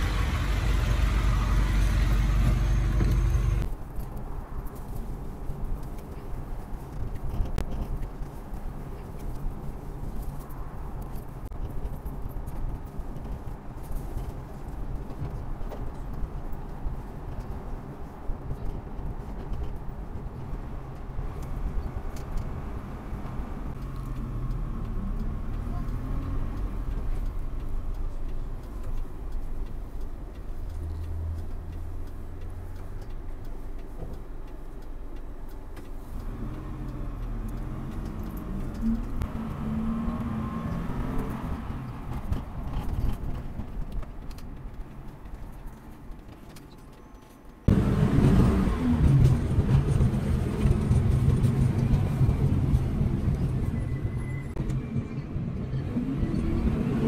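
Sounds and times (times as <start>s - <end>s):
busy traffic noise: 0.0s - 57.0s
vehicle engine and road rumble: 0.0s - 57.0s.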